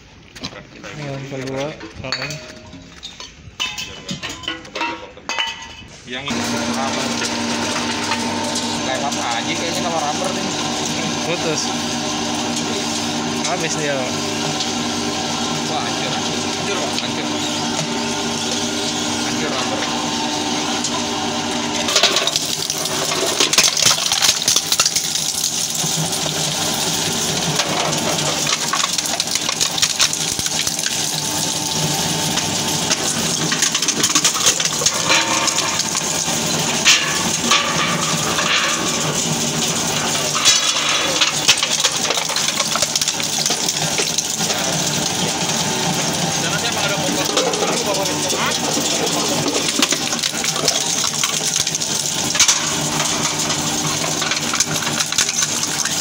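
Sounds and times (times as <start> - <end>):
shredder running: 6.2 - 56.0
shredder shredding metal tins: 6.2 - 56.0.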